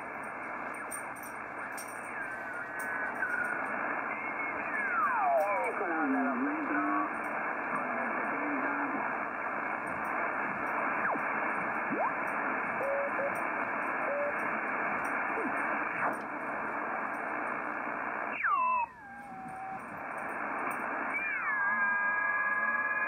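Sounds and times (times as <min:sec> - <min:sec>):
radio band noise hiss: 0:00.0 - 0:23.0.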